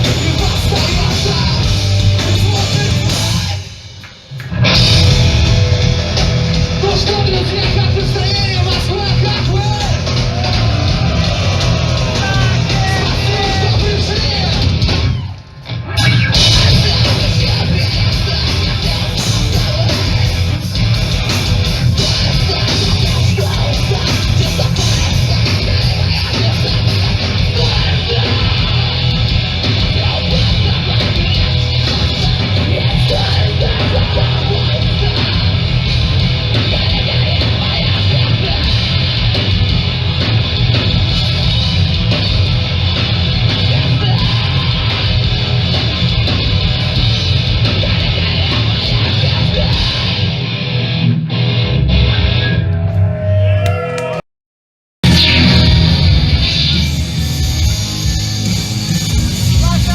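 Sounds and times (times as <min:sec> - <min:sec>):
punk band playing live: 0:00.0 - 0:54.2, 0:55.0 - 0:59.9.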